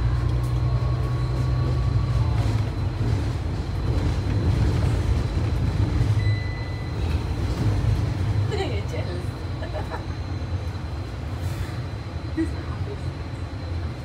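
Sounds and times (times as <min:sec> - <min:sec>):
city bus engine and road noise: 0:00.0 - 0:14.0.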